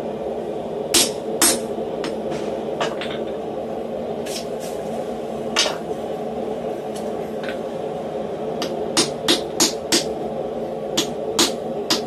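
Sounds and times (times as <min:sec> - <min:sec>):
steady workshop hum: 0:00.0 - 0:12.0.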